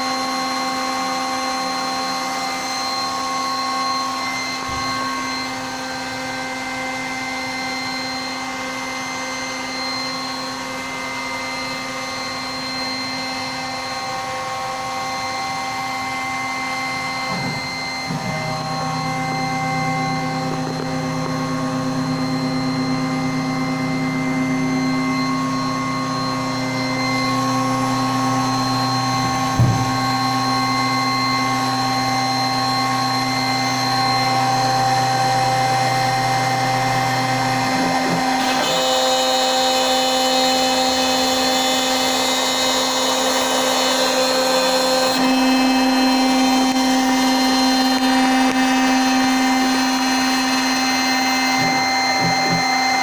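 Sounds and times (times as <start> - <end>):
cnc router whine: 0.0 - 53.0.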